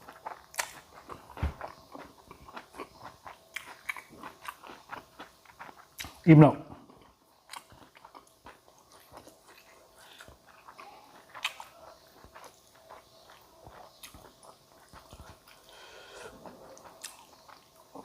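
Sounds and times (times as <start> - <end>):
person chewing food: 0.0 - 6.2, 6.8 - 18.0.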